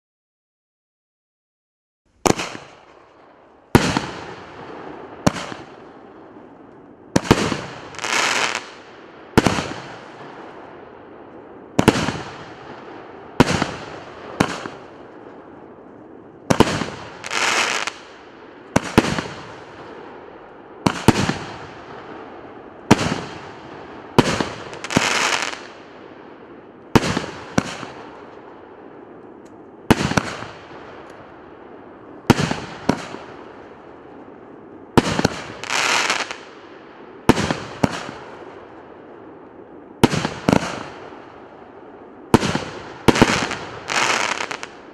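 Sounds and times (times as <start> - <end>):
firework crackling: 2.2 - 10.8, 11.7 - 31.3, 32.0 - 36.5, 37.1 - 44.9
firework bangs: 2.2 - 44.9.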